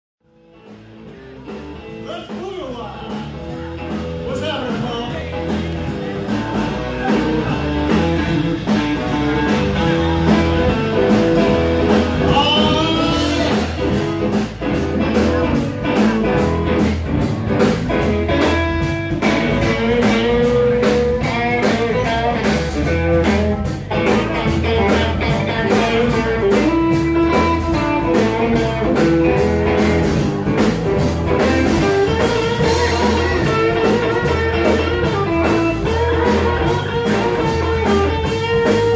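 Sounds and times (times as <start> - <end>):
electric guitars: 0.2 - 38.9
steady drum beat: 0.4 - 38.9.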